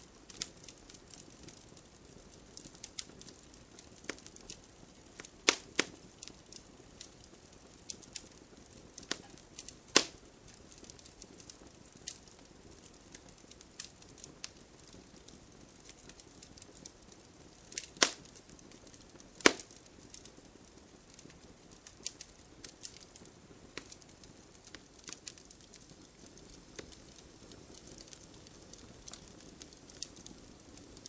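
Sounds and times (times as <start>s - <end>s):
bonfire crackling and popping: 0.0s - 31.0s
faint rain hiss: 0.0s - 31.0s.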